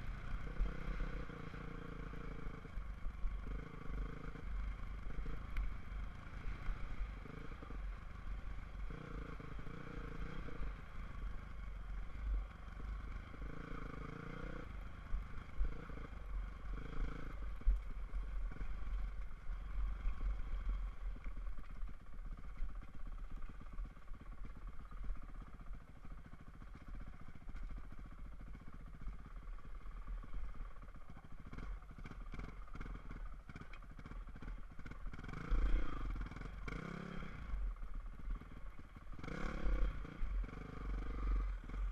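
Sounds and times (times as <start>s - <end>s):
constant low rumble: 0.0s - 41.9s
dirt bike engine running: 0.0s - 41.9s.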